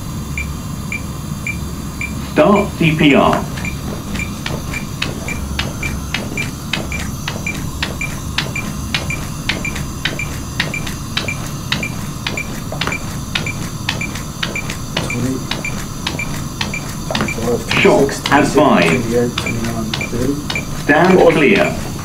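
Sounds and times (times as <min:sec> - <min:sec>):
chest compressions clicking and thudding: 0:02.0 - 0:22.0.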